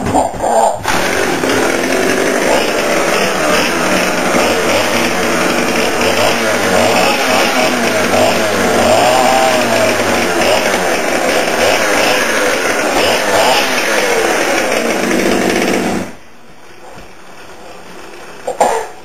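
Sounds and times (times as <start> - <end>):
chainsaw revving: 0.8 - 16.2.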